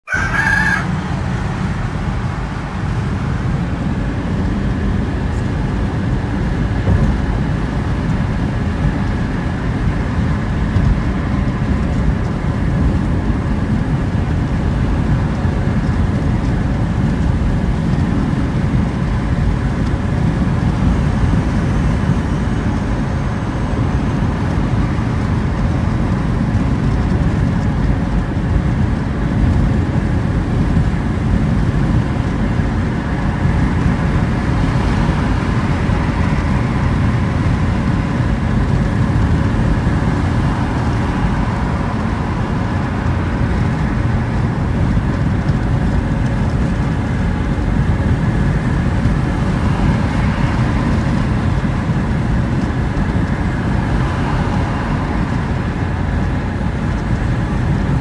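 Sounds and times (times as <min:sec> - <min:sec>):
car cabin road noise: 0:00.0 - 0:58.0.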